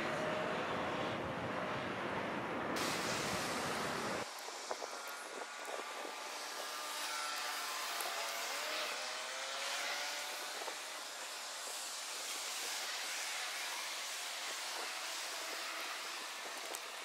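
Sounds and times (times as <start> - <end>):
sped-up engine hiss with sliding tones: 2.8 - 17.0.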